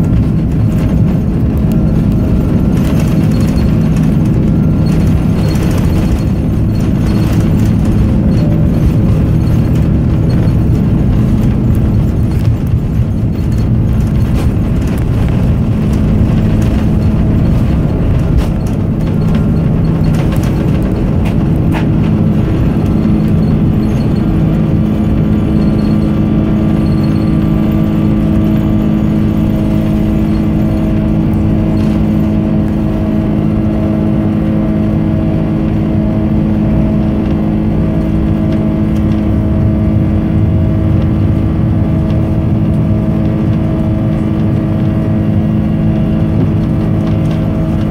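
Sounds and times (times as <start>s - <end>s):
jet engines droning in cabin: 0.0s - 47.9s.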